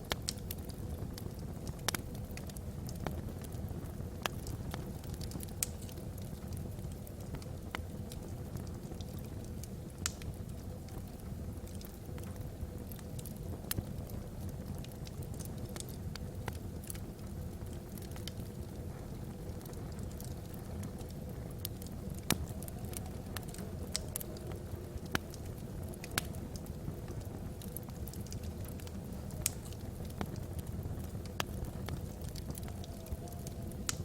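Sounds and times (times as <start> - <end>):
fire burning low rumble: 0.0 - 34.0
fire crackles and pops: 0.0 - 34.0.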